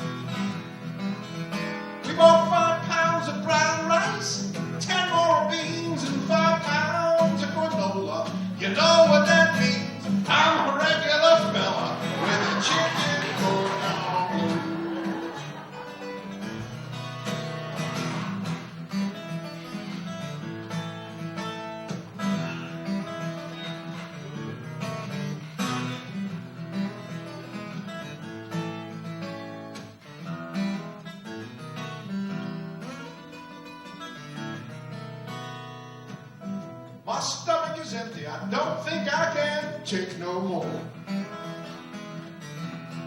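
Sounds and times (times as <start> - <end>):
acoustic guitar blues playing: 0.0 - 43.0.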